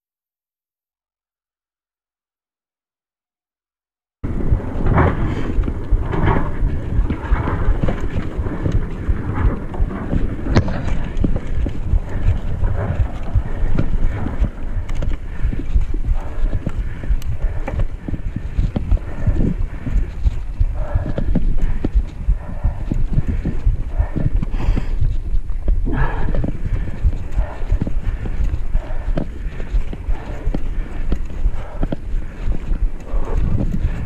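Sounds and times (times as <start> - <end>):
knobbly tyres rumbling: 4.2 - 34.0
wind buffeting microphone: 4.2 - 34.0
bike rattling and knocking: 4.3 - 34.0.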